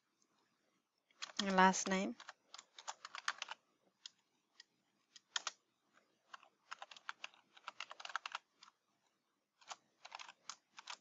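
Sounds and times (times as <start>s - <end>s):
keyboard typing: 1.1s - 8.8s, 9.6s - 11.0s.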